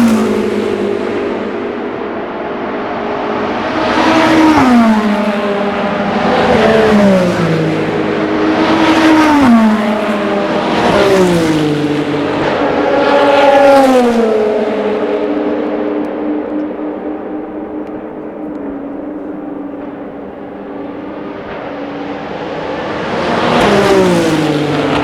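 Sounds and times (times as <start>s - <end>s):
racing cars passing at speed: 0.0s - 25.0s.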